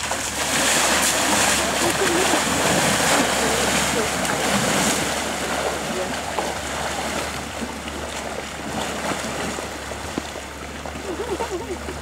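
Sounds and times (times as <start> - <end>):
water splashing and churning: 0.0 - 12.0.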